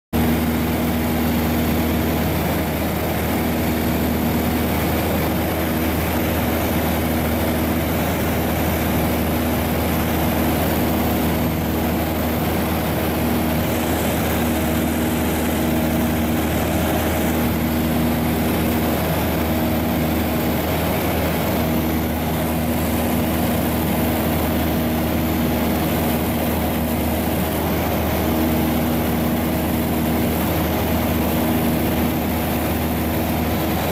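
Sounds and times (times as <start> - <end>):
light aircraft engine from cabin: 0.2 - 33.9.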